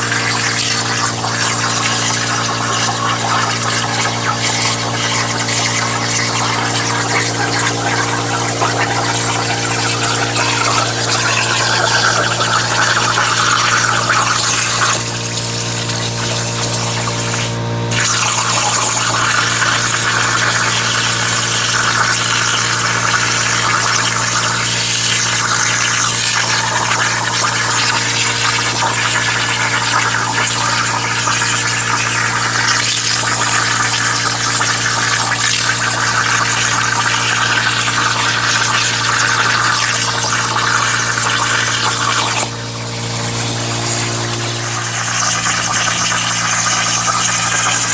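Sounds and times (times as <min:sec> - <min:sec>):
plasma arc hissing: 0:00.0 - 0:47.9.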